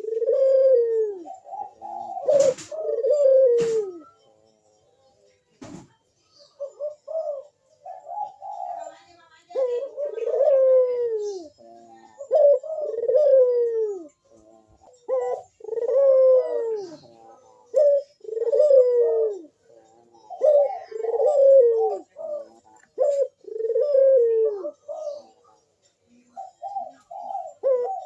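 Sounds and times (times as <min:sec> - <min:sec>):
dove cooing: 0:00.0 - 0:04.4, 0:06.4 - 0:28.0.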